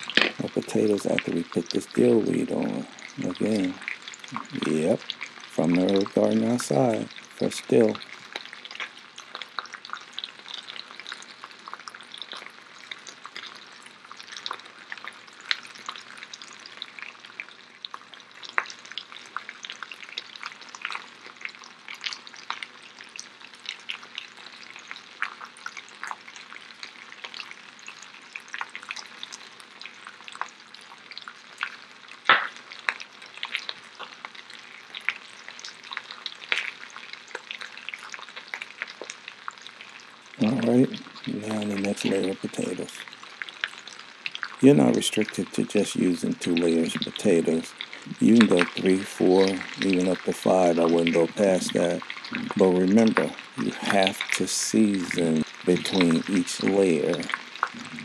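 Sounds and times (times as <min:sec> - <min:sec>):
food sizzling and popping in pans: 0:00.0 - 0:58.0.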